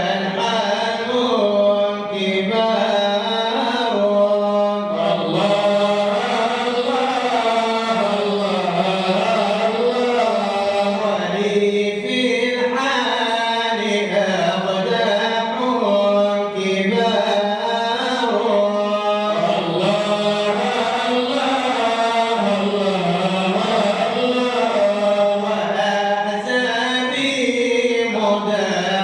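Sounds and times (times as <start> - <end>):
man chanting unaccompanied: 0.0 - 29.0.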